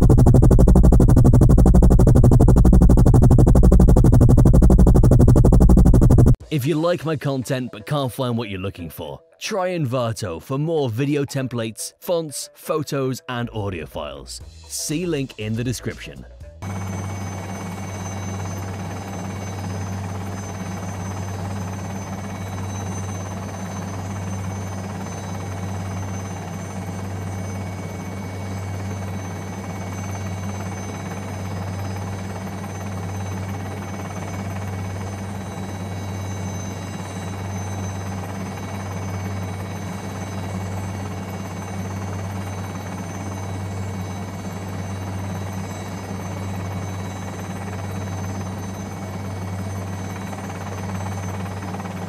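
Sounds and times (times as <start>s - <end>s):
helicopter rotor and engine: 0.0s - 6.4s, 16.6s - 52.0s
high-pitched whine: 0.0s - 6.4s, 16.6s - 52.0s.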